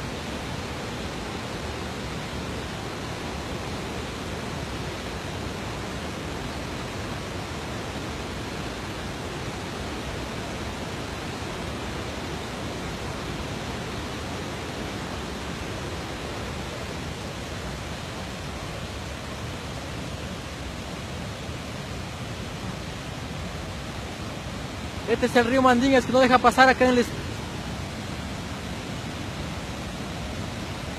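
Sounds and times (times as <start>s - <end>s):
river in flood rushing: 0.0s - 30.9s.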